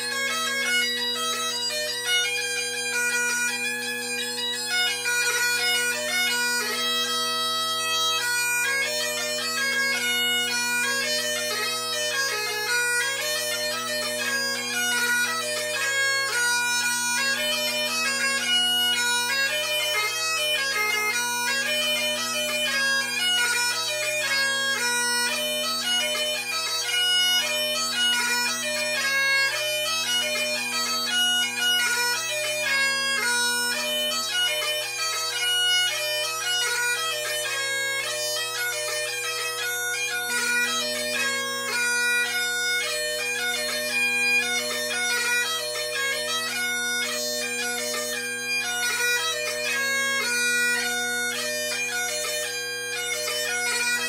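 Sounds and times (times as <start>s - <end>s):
bagpipe chanter melody: 0.0s - 54.0s
bagpipe drones: 0.0s - 54.0s.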